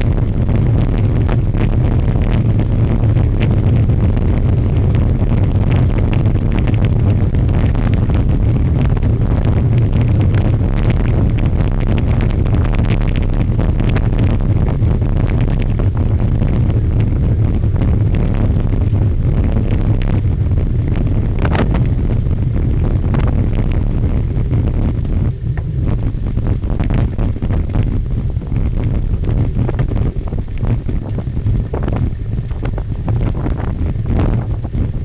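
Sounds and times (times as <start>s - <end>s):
steady low rumble: 0.0s - 35.0s
wind buffeting microphone: 0.0s - 35.0s.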